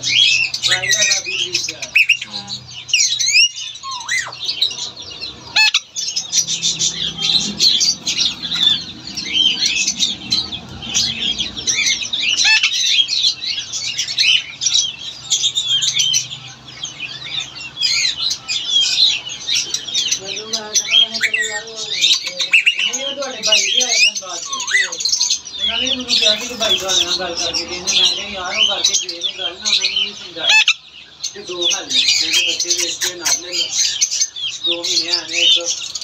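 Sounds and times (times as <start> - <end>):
parakeets squawking and chirping: 0.0 - 36.0.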